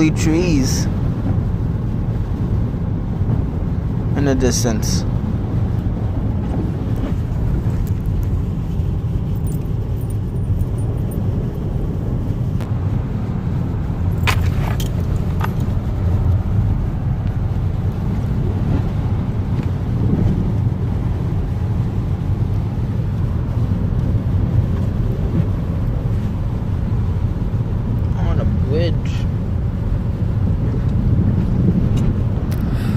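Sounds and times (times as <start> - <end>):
car engine rumble and road noise: 0.0 - 32.9.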